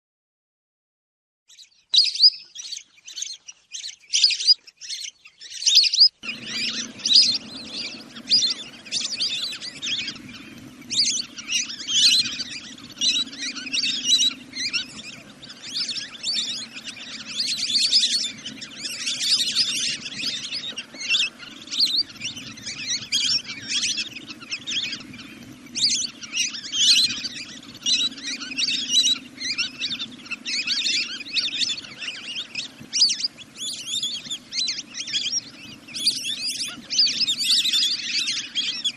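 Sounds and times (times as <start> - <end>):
recorded bird calls chirping: 1.5 - 38.9
low steady hum: 6.2 - 38.8.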